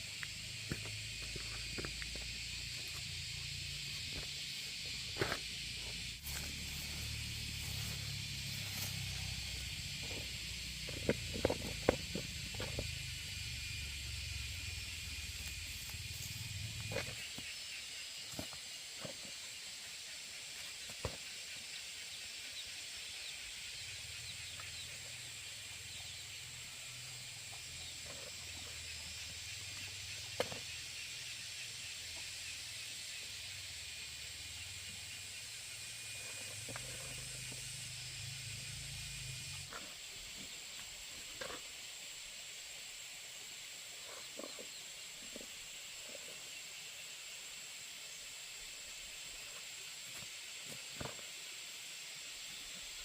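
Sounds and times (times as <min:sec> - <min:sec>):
high outdoor hiss: 0:00.0 - 0:53.0.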